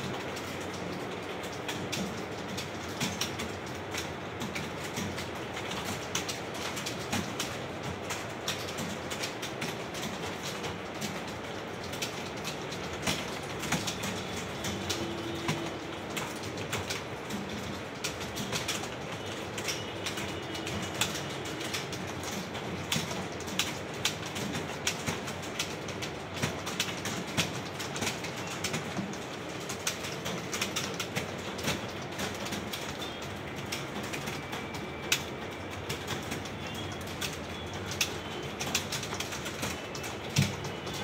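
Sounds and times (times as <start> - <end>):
keyboards typing clatter: 0.0 - 41.0.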